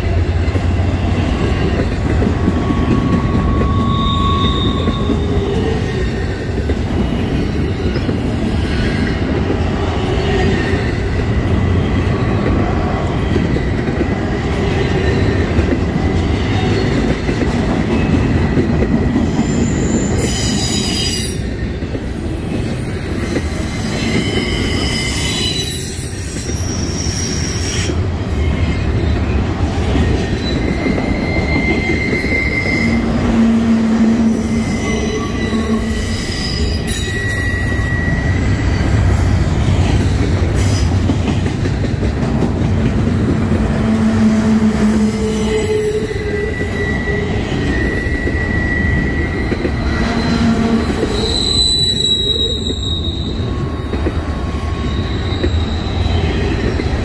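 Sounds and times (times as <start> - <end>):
freight train wheels rumbling and rattling: 0.0 - 57.0
train wheels squealing: 0.8 - 57.0.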